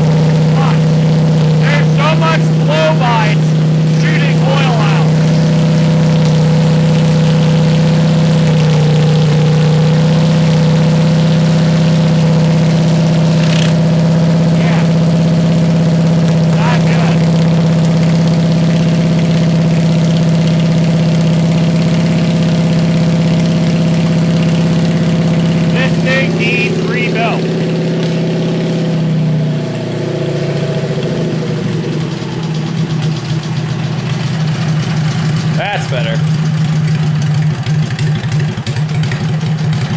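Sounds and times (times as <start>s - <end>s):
garden tractor engine running: 0.0s - 29.6s, 30.5s - 39.9s.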